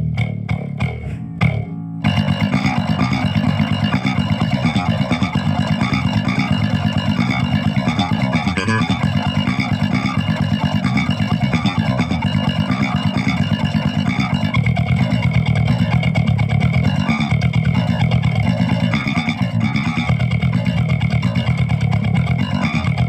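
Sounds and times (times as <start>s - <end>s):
electric bass fingerstyle: 0.0s - 23.0s.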